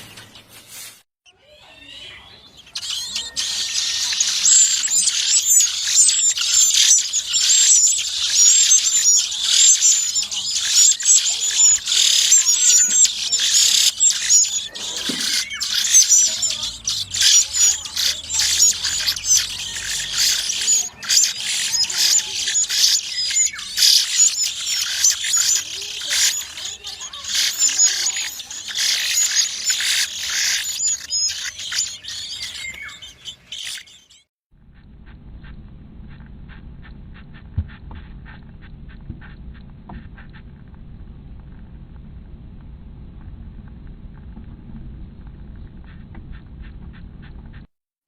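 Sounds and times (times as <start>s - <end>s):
nestling birds chirping: 0.0s - 40.7s.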